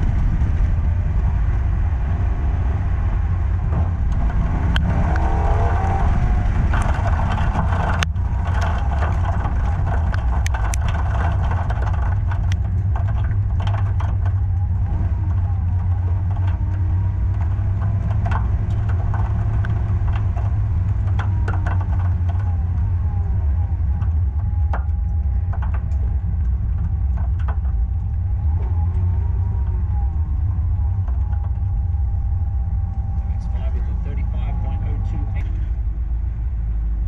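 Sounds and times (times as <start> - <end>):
faint car engine: 0.0 - 37.0
wind and road noise rumble: 0.0 - 37.0.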